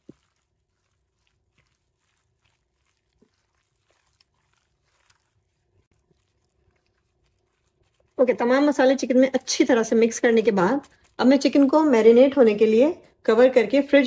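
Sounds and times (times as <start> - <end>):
wet squelches of kneading meat: 0.0 - 14.0.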